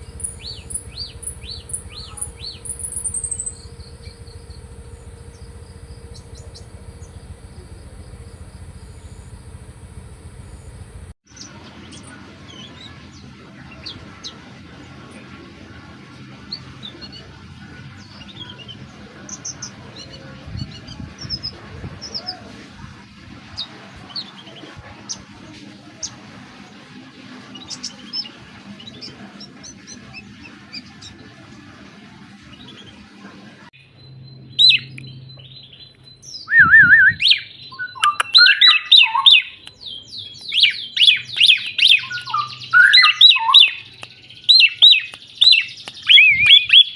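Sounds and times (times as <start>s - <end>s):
small birds chirping: 0.0s - 9.4s, 10.4s - 46.9s.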